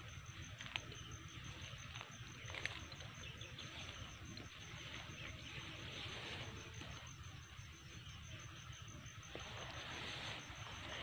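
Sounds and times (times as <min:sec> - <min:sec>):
hiss of insects: 0:00.0 - 0:11.0
insect chirping in pulsing tone: 0:00.0 - 0:11.0.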